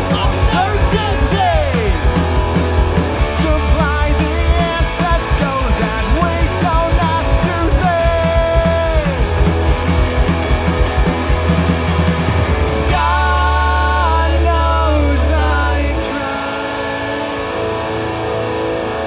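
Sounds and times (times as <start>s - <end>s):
bending lead guitar melody: 0.0s - 19.0s
punk rock band playing live: 0.0s - 19.0s.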